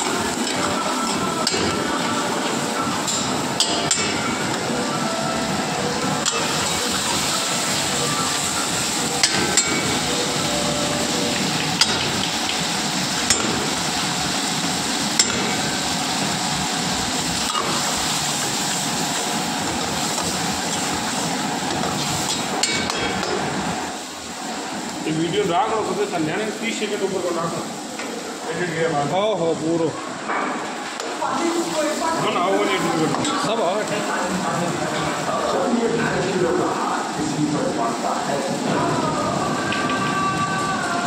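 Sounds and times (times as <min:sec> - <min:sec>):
gravy sizzling in a pan: 0:00.0 - 0:41.0.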